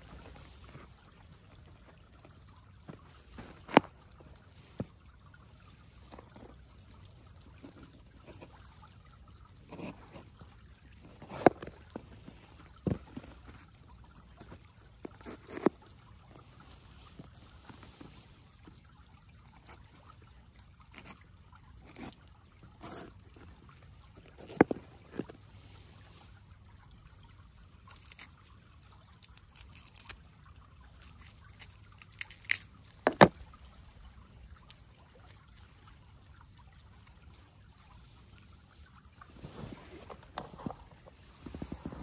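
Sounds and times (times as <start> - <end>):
faint trickle of water: 0.0 - 42.0.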